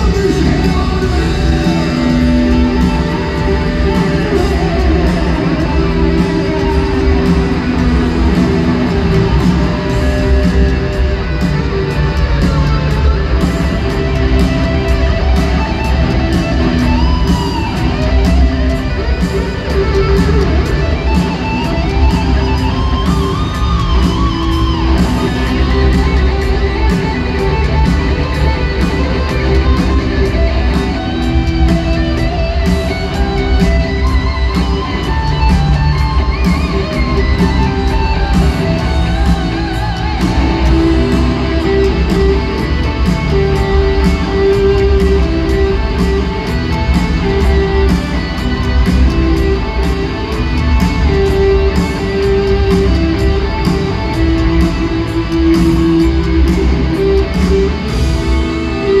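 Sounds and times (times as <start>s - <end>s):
heavy metal band playing live: 0.0s - 59.0s.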